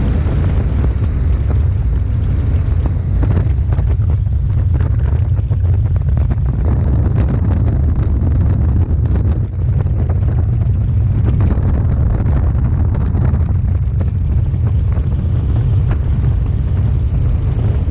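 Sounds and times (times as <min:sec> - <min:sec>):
helicopter rotor and engine drone: 0:00.0 - 0:17.9
wind buffeting microphone: 0:00.0 - 0:17.9.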